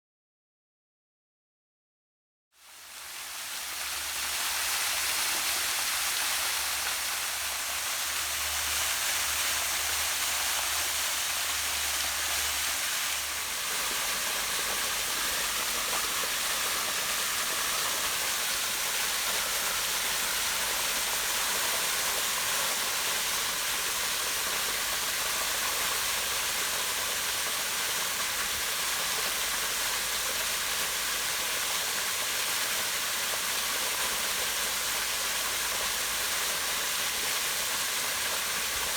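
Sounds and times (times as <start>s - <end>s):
small waterfall rushing: 2.6s - 38.9s.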